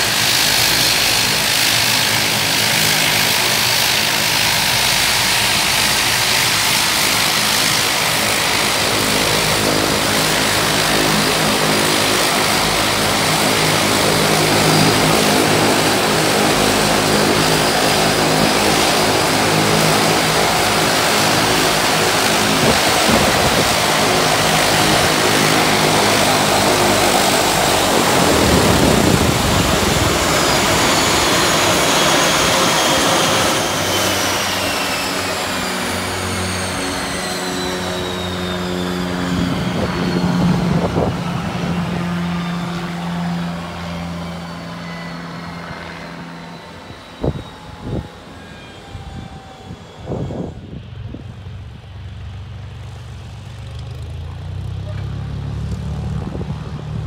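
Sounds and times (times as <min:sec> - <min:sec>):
turboprop engines spooling down: 0:00.0 - 0:57.0.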